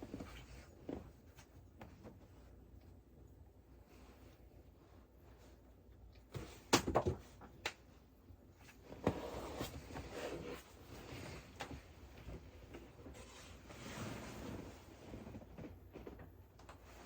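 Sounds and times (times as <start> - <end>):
rustling and shuffling: 0.0 - 17.0.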